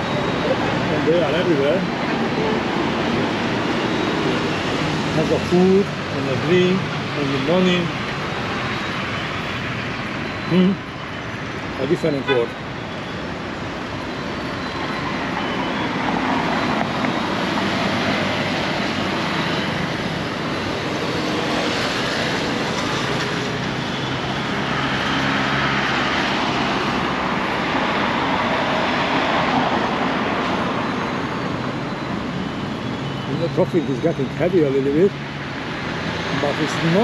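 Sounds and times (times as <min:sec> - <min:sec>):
cars and motorcycles driving past: 0:00.0 - 0:37.0.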